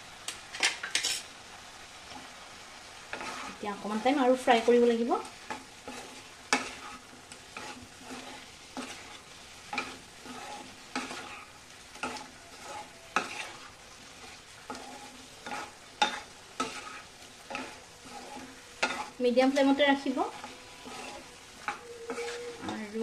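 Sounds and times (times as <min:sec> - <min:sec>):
food sizzling in a pan: 0:00.0 - 0:23.0
spatula scraping a pan: 0:00.5 - 0:01.3, 0:03.0 - 0:23.0.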